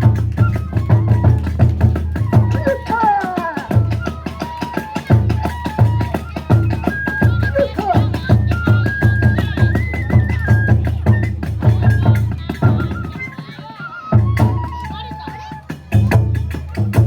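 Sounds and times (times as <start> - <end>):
large drum beating: 0.0 - 4.4, 5.1 - 13.1, 15.8 - 17.0
bamboo flute high notes: 0.0 - 17.0
rapid percussion strikes: 0.0 - 17.0.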